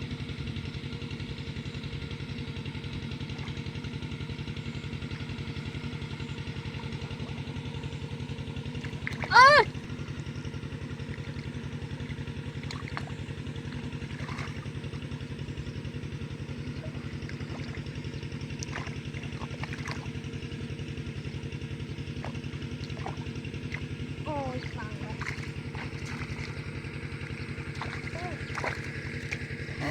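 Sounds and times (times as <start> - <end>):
small engine chugging: 0.0 - 29.9.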